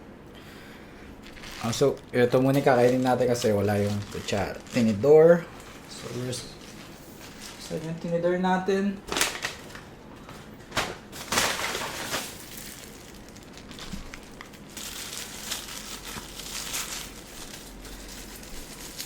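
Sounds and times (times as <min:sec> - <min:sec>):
packaging crinkling and rustling: 0:01.2 - 0:08.2, 0:09.0 - 0:19.0.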